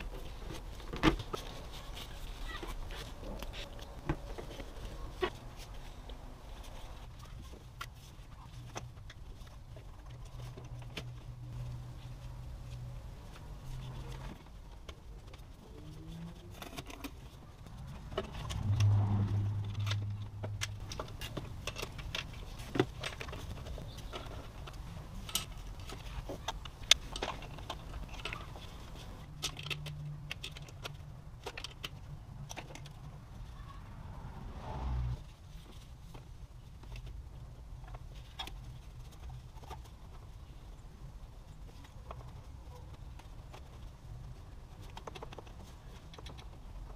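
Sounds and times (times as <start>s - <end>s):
hands clicking and knocking parts: 0.0s - 33.2s, 41.6s - 46.9s.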